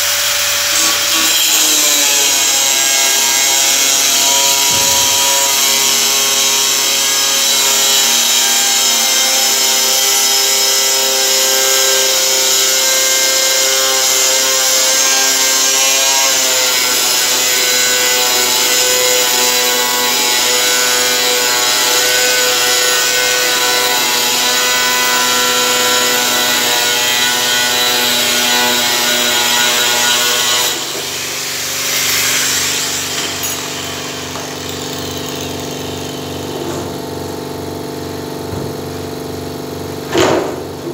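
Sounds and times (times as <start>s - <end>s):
power tool grinding whine: 0.0s - 40.9s.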